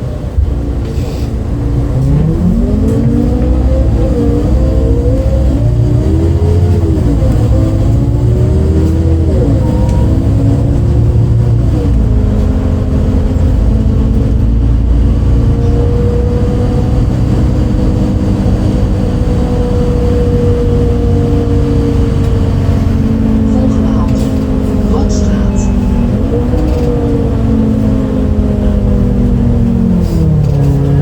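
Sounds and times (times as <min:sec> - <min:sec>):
bus diesel engine under load: 0:00.0 - 0:31.0.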